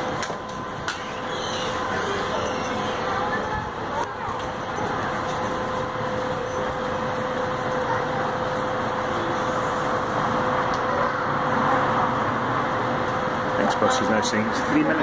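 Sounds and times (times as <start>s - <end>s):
buses idling at stop: 0.0s - 15.0s
steady hum: 0.0s - 15.0s.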